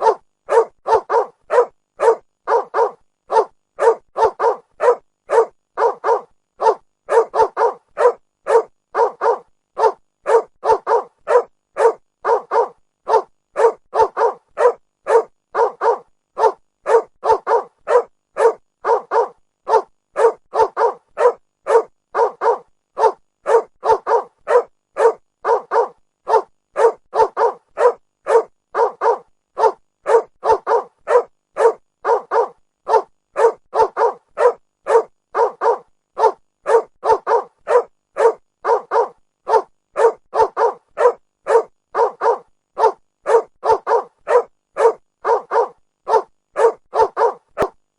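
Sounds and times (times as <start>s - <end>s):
dog barking: 0.0s - 47.8s.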